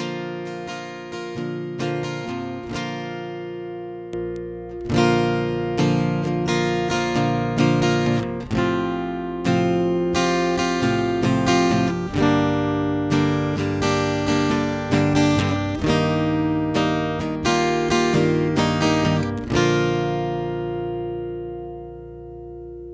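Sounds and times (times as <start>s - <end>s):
acoustic guitar strumming chords: 0.0s - 22.9s.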